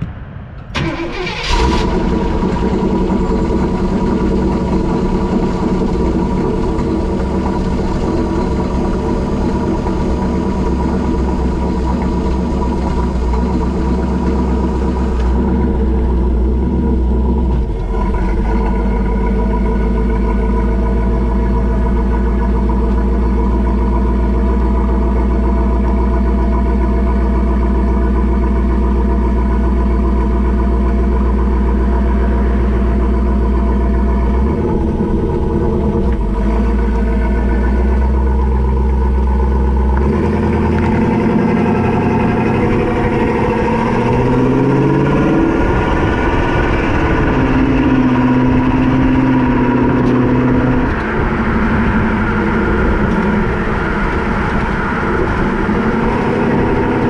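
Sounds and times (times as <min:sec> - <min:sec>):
car engine idling: 0:00.1 - 0:57.0.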